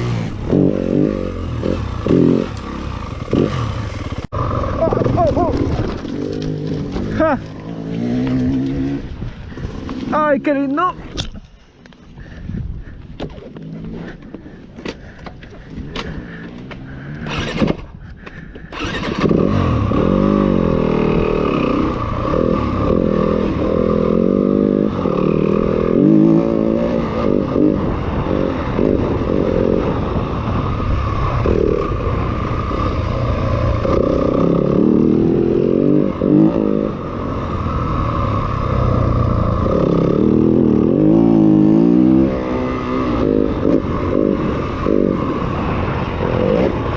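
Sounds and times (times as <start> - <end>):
dirt bike engine revving: 0.0 - 9.1, 16.2 - 17.8, 18.7 - 46.9.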